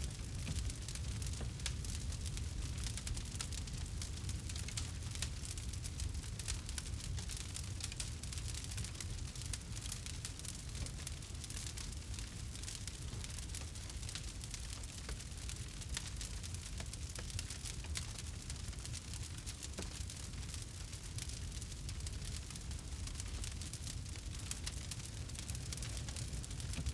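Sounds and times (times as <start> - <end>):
campfire crackling: 0.0 - 26.9
low rumble of flames: 0.0 - 26.9.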